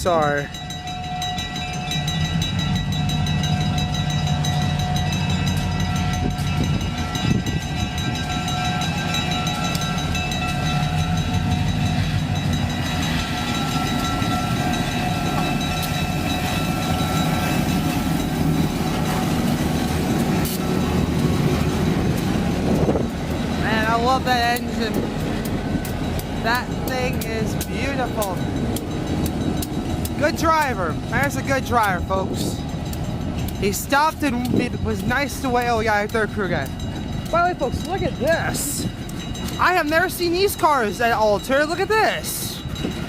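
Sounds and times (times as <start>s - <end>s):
high ringing tones: 0.0s - 43.0s
train wheels rumbling on rail: 0.0s - 43.0s.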